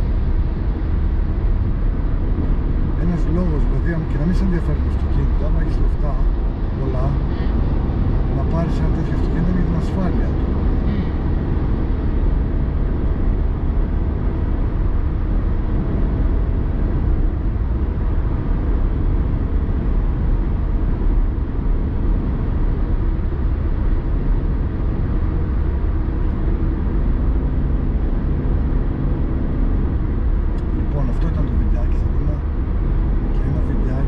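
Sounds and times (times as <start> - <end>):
car driving rumble: 0.0 - 34.0.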